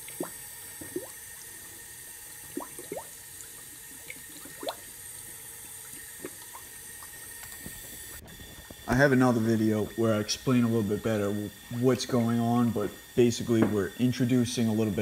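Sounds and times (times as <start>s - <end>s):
air bubbles gurgling in coolant: 0.0s - 13.2s.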